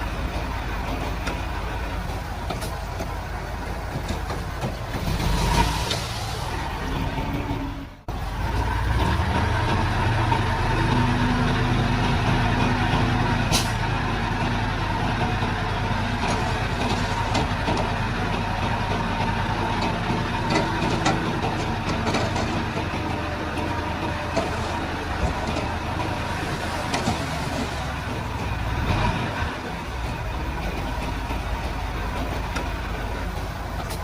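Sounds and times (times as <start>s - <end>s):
heavy diesel machinery drone: 0.0s - 34.0s.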